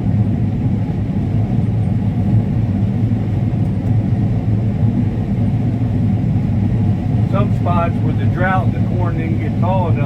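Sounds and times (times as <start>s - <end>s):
combine harvester droning: 0.0s - 10.0s.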